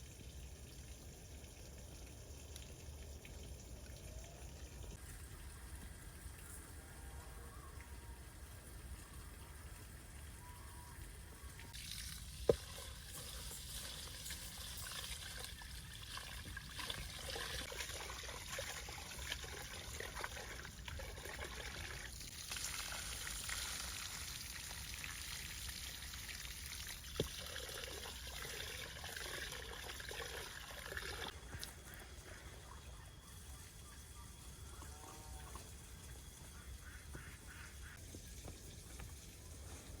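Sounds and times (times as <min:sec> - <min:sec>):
water pouring and trickling: 0:00.0 - 0:36.9, 0:37.8 - 0:40.0.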